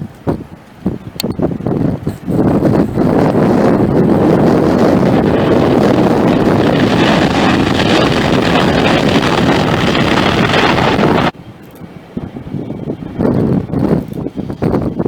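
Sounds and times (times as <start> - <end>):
wind buffeting microphone: 0.0 - 15.0
jet engine rush: 0.9 - 15.0.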